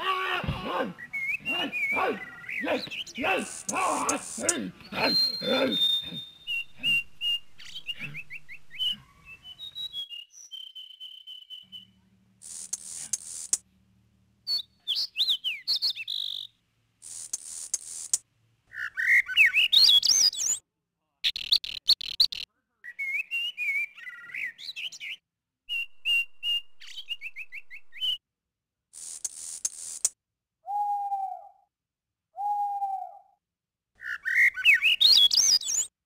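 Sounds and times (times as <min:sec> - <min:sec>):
high whistling and chirping calls: 0:00.9 - 0:13.6, 0:14.5 - 0:20.6, 0:21.3 - 0:28.2, 0:30.7 - 0:31.6, 0:32.4 - 0:33.4, 0:34.0 - 0:35.9.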